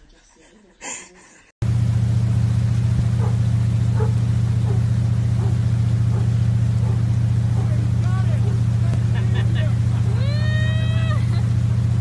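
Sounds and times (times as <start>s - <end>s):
loud low drone: 1.6s - 12.0s.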